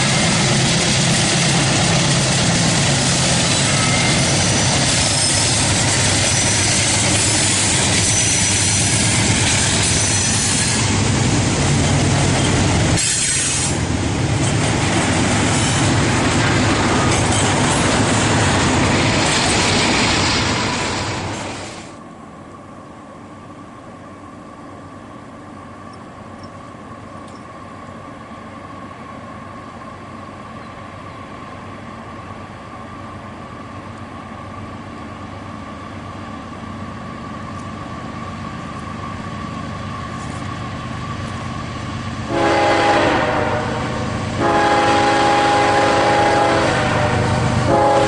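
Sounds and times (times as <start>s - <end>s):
diesel locomotives passing: 0.0s - 48.0s
train wheel and rail noise: 0.0s - 48.0s.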